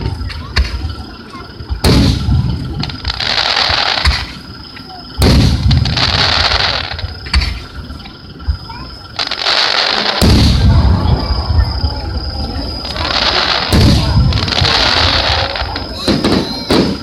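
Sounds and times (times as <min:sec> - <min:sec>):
sharp fireworks pops: 0:00.0 - 0:11.8, 0:12.8 - 0:17.0
crackling hiss: 0:00.0 - 0:17.0
fireworks booming: 0:00.0 - 0:17.0.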